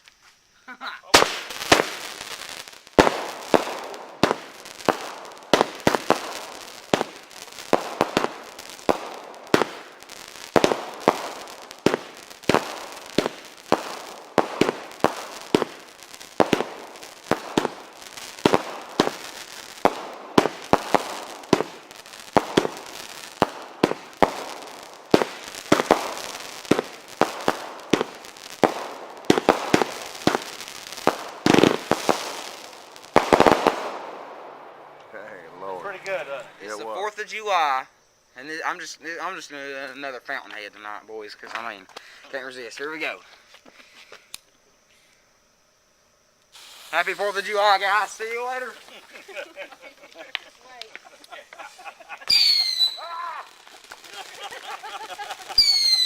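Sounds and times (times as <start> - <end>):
firework fountain hissing and crackling: 0.0 - 56.0.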